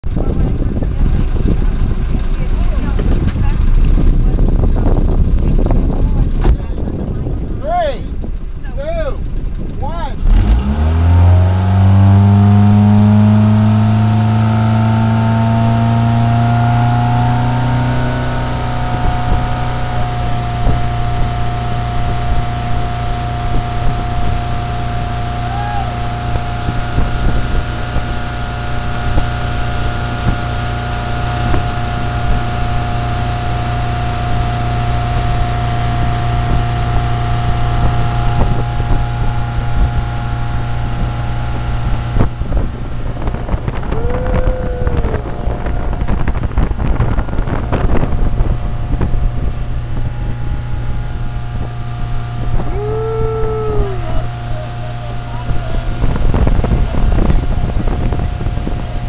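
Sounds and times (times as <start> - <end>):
motorboat engine drone: 0.0 - 59.0
wind buffeting microphone: 0.0 - 59.0
water wash: 10.3 - 59.0.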